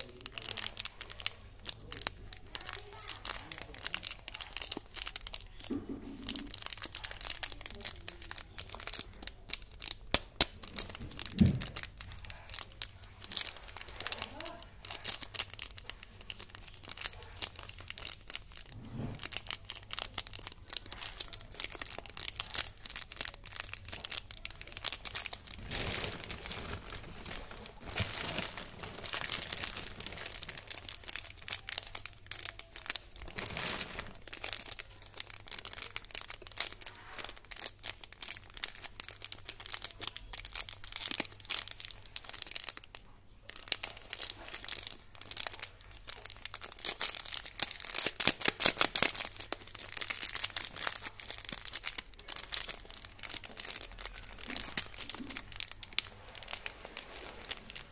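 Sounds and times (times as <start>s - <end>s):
plastic wrappers crinkling: 0.0s - 57.9s.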